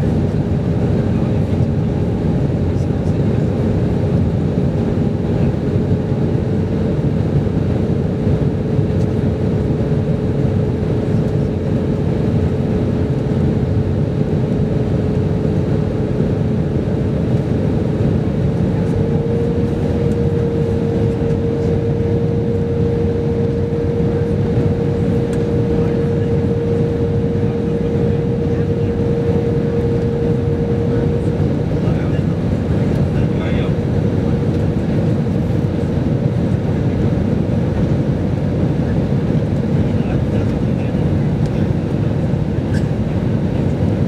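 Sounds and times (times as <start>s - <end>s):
airflow rushing in cabin: 0.0s - 44.0s
jet engines running: 0.0s - 44.0s.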